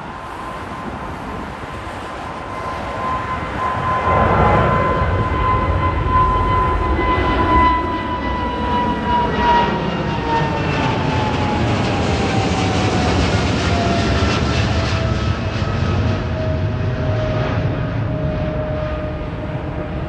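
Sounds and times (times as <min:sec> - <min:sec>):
jet airliner roaring overhead: 0:00.0 - 0:20.0
jet engine whine: 0:00.0 - 0:20.0.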